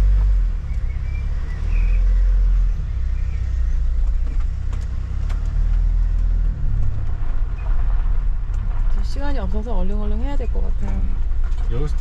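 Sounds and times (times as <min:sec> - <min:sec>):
van engine rumble: 0:00.0 - 0:12.0.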